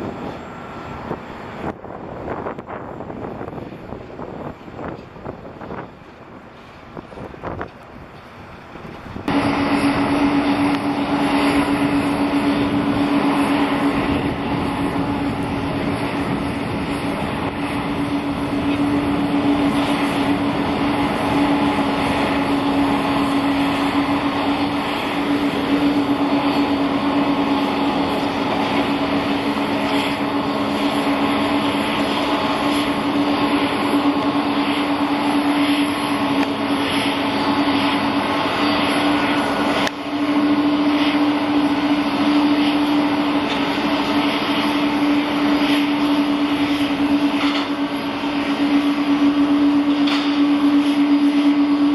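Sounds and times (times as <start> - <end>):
jet engines idling: 0.0 - 51.9.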